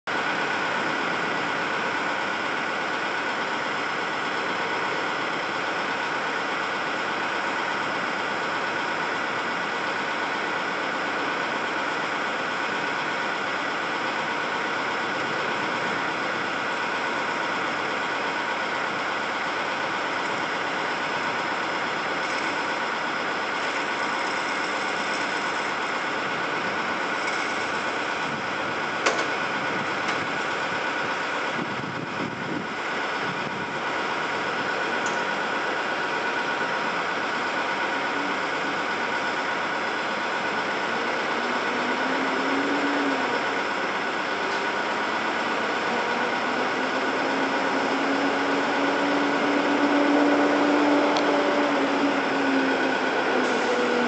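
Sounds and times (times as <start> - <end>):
engine idling: 0.1 - 54.0.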